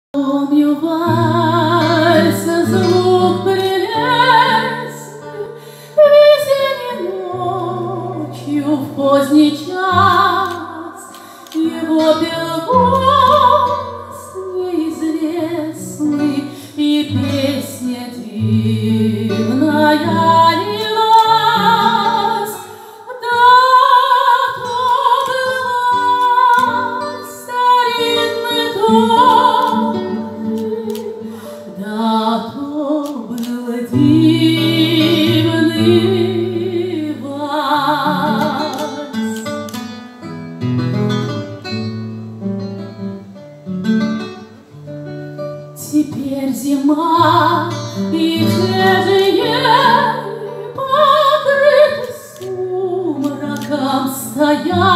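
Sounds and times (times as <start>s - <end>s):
woman singing operatically: 0.2s - 39.6s, 45.8s - 54.9s
acoustic guitar waltz: 0.3s - 54.9s.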